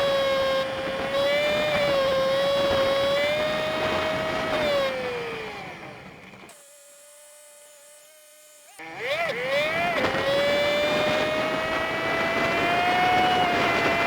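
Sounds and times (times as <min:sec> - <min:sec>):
sped-up motorcycle engine whine: 0:00.0 - 0:06.5, 0:07.1 - 0:14.0.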